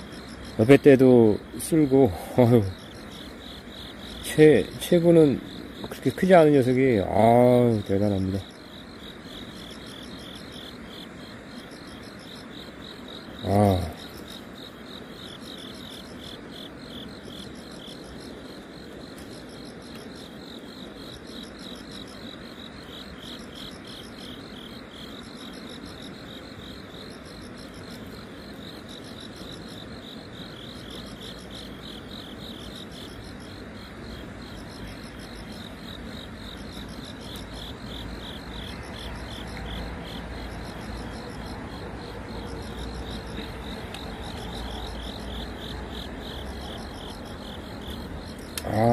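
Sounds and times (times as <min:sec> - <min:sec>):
insects chirring: 0:00.0 - 0:48.9
steady outdoor hiss: 0:00.0 - 0:48.9.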